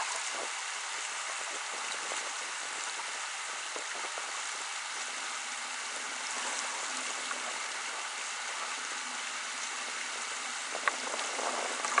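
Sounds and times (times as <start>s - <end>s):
river rushing over riffle: 0.0s - 12.0s.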